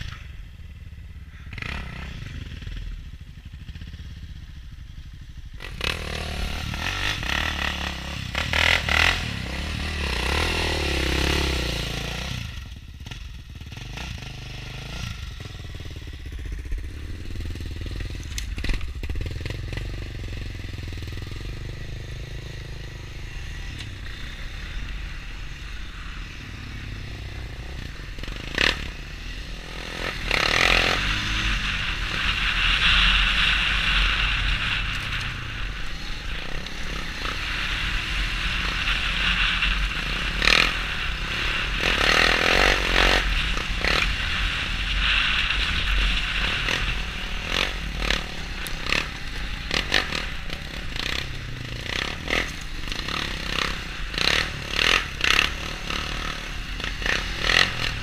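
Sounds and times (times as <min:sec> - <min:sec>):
quad engines running: 0:00.0 - 0:58.0.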